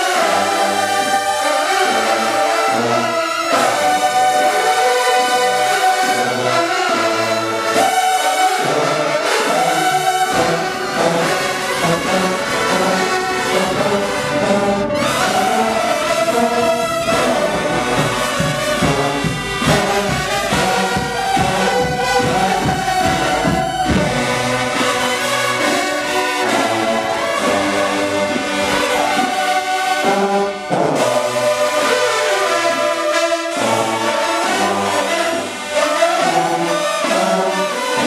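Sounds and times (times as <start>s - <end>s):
marching band brass playing: 0.0s - 38.0s.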